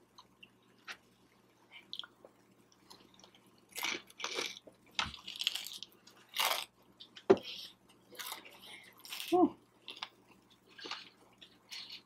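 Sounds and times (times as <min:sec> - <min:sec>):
chewing crunchy food: 0:01.7 - 0:12.0.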